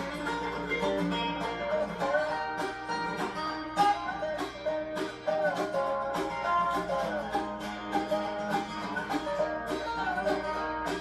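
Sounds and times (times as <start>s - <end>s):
country-gospel music with plucked strings: 0.0s - 11.0s.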